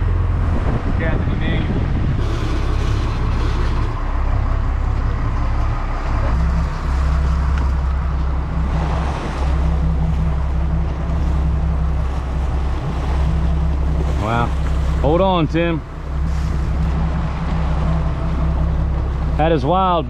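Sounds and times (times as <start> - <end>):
motorboat engine humming: 0.0 - 20.0
rushing water: 0.0 - 20.0
wind: 0.0 - 20.0.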